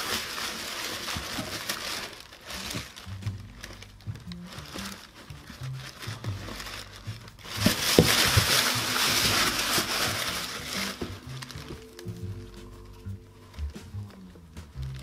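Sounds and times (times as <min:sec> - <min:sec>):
tissue paper rustling: 0:00.0 - 0:15.0
background music with bass: 0:02.5 - 0:15.0.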